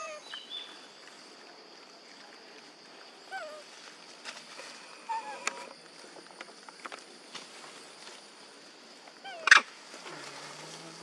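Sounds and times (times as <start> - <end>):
steady high outdoor hum: 0.0 - 11.0.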